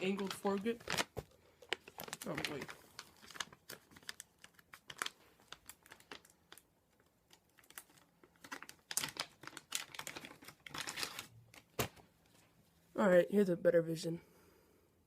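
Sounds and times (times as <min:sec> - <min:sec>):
plastic crinkling: 0:00.0 - 0:12.4.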